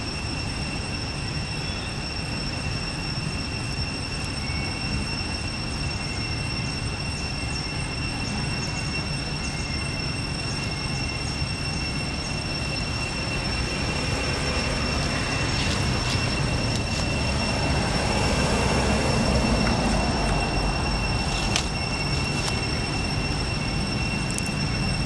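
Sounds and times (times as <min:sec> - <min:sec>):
cicadas droning: 0:00.0 - 0:25.0.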